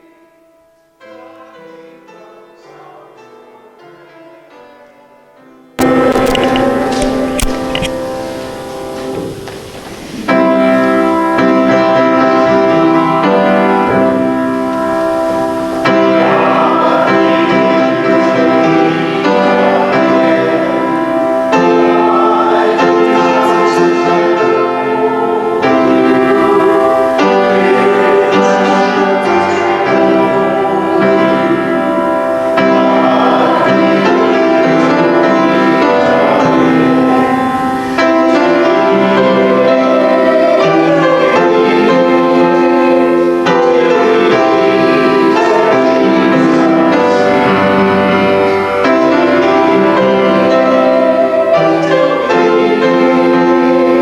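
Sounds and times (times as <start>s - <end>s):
keyboard accompaniment: 0.0s - 54.0s
group singing a hymn: 5.8s - 54.0s.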